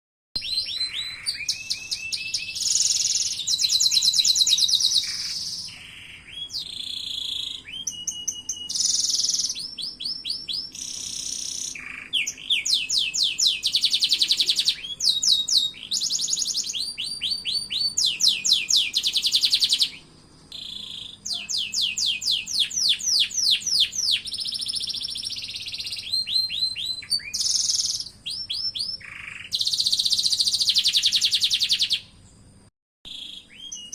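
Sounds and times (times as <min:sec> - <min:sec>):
canary singing trills and chirps: 0:00.4 - 0:33.9.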